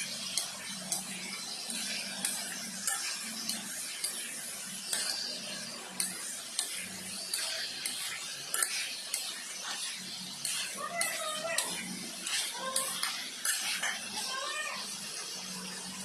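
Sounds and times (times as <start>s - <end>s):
meat sizzling: 0.0s - 16.0s
spatula scraping a wok: 0.0s - 16.0s.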